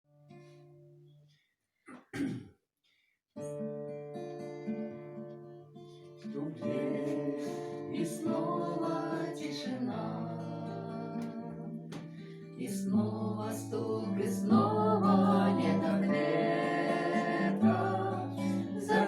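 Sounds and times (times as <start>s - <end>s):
acoustic guitar playing: 3.4s - 19.0s.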